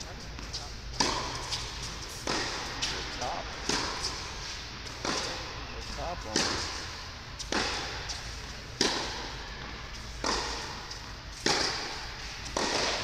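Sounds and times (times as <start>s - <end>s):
tennis ball hits echoing: 0.4s - 4.2s, 4.8s - 13.0s.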